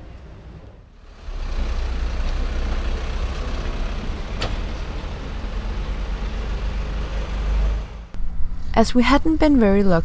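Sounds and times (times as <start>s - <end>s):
vehicle engine rumble: 0.0s - 8.8s.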